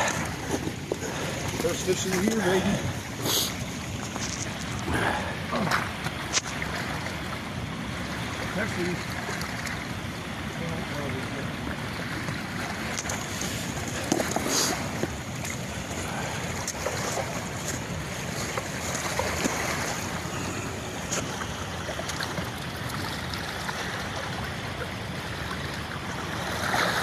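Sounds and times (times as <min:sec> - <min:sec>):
water rushing over spillway: 0:00.0 - 0:27.0.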